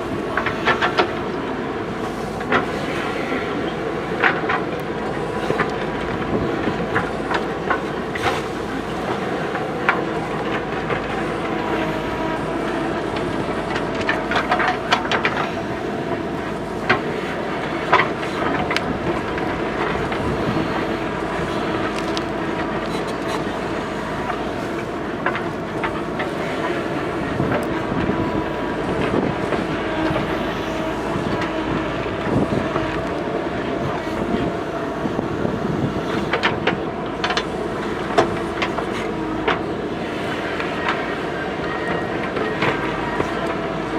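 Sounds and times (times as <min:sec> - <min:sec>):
diesel engine running under load: 0:00.0 - 0:43.9.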